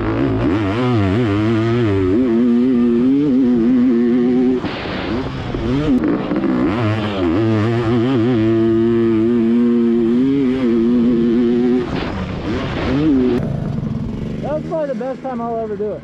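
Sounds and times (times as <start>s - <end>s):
two-stroke motocross engine revving: 0.0s - 16.0s.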